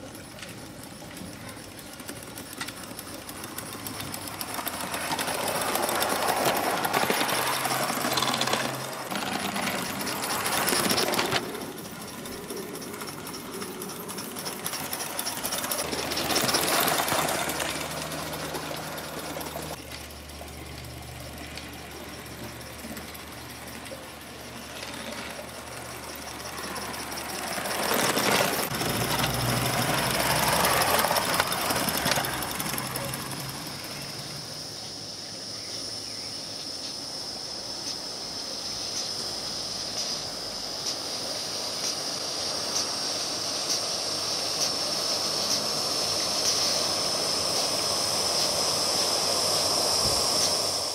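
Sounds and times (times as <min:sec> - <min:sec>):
model steam locomotive exhaust beats: 0:00.0 - 0:50.9.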